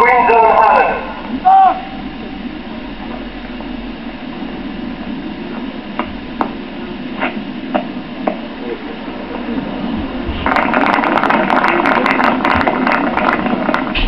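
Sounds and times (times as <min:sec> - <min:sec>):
dense crackling noise: 0:00.0 - 0:14.0
steady low hum: 0:00.0 - 0:14.0.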